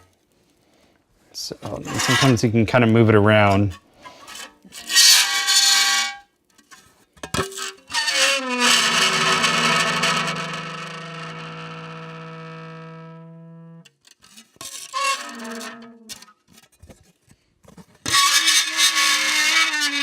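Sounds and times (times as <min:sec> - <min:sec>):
metal plate screeching on dry ice: 0:01.7 - 0:16.8, 0:17.7 - 0:20.0.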